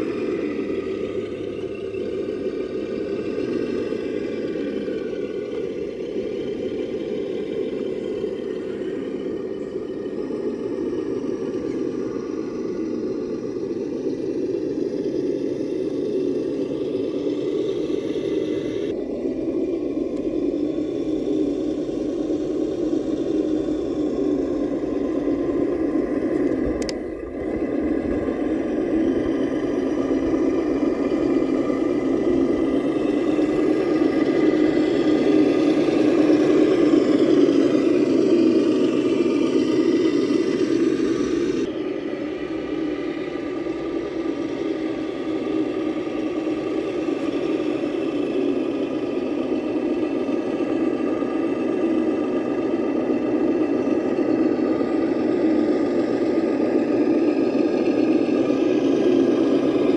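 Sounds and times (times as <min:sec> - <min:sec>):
toy truck motor whirring: 0:00.0 - 0:59.9.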